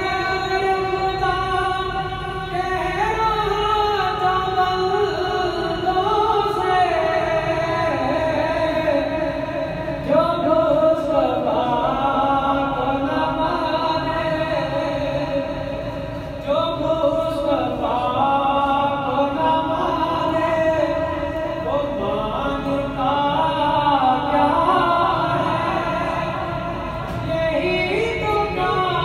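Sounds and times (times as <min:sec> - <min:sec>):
man singing devotional chant: 0:00.0 - 0:29.0.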